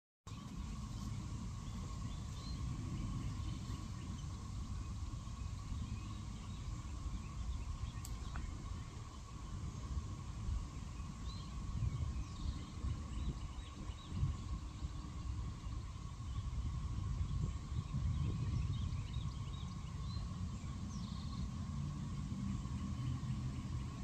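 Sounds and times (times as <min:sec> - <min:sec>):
cicada drone: 0:00.3 - 0:24.0
faint bird chirps: 0:00.3 - 0:24.0
wind buffeting microphone: 0:00.3 - 0:24.0.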